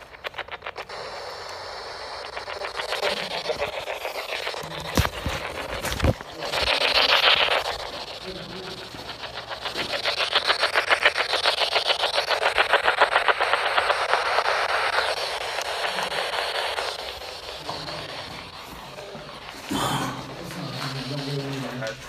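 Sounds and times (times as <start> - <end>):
choppy radio static pulses: 0.0 - 22.0.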